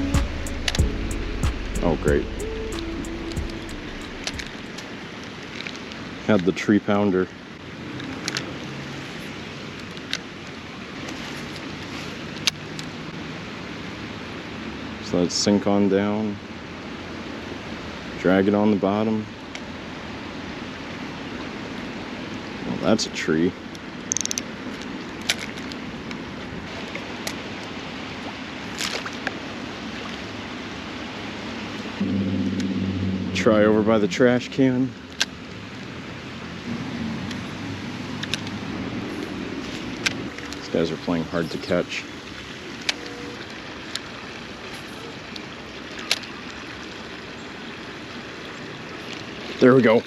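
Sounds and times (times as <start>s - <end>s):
small stream trickling: 0.0s - 32.0s, 33.9s - 50.0s.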